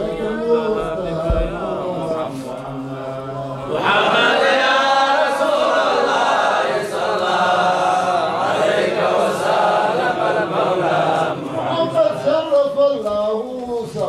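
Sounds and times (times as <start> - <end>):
group of men chanting: 0.0 - 12.3.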